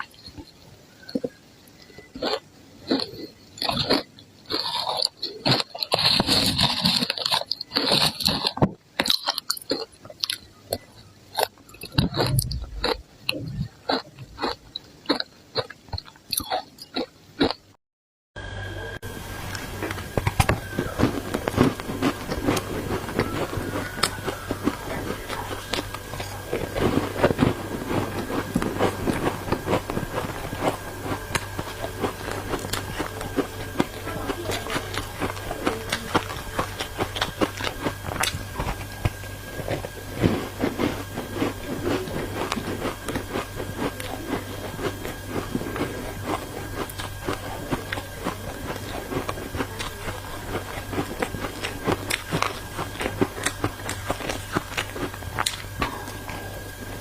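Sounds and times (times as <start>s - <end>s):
crunching of chewing ice: 0.0s - 17.8s, 19.5s - 57.0s
steady low hum: 0.0s - 17.8s, 18.4s - 57.0s.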